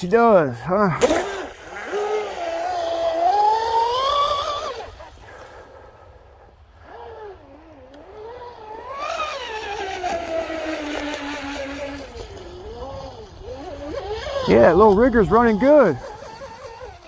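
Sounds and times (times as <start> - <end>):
electric boat motor whining: 0.0 - 17.0.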